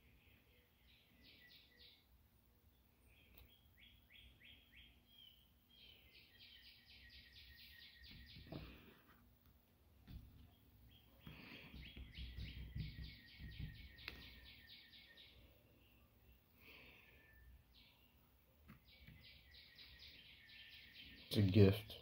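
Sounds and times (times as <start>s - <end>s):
high bird chirps: 0.0s - 2.1s, 3.1s - 8.7s, 10.4s - 21.8s.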